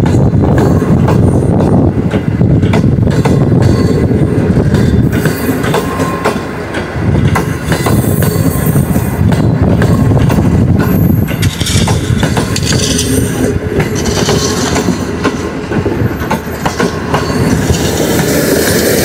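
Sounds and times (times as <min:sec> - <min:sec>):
train wheels clacking over rail joints: 0:00.0 - 0:19.0.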